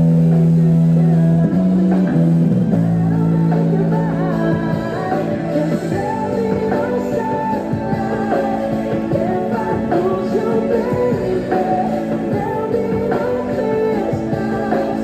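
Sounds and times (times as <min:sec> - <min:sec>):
guitar chords: 0:00.0 - 0:15.0
man singing: 0:01.0 - 0:15.0.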